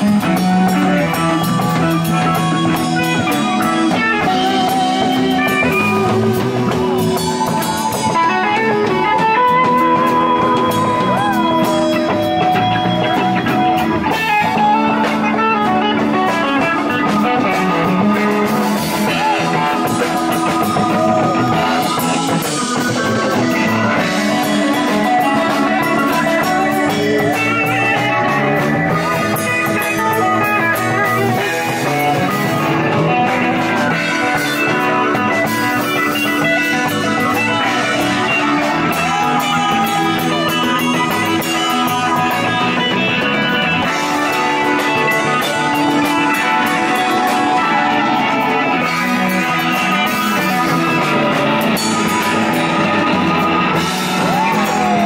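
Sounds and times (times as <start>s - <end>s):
blues-rock band playing: 0.0s - 55.0s
lead electric guitar bent notes: 0.0s - 55.0s.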